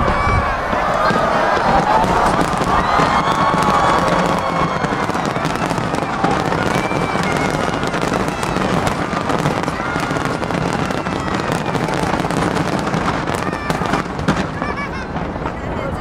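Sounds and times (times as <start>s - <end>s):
crowd voices: 0.0s - 16.0s
fireworks bursting and crackling: 0.0s - 16.0s.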